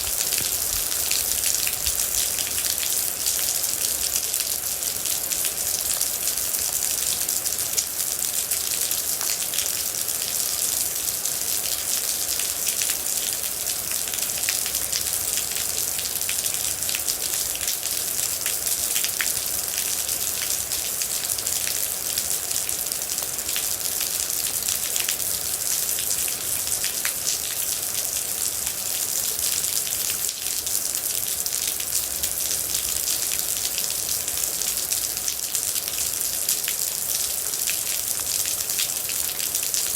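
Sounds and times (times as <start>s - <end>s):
rain pattering on hard surface: 0.0s - 39.9s.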